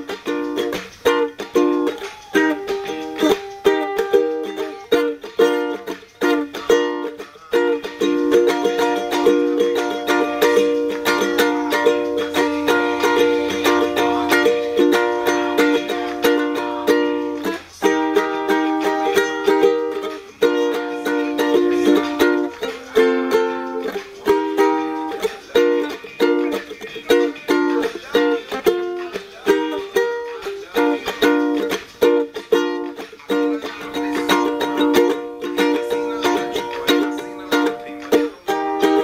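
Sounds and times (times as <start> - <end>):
ukulele strumming chords: 0.0 - 39.0.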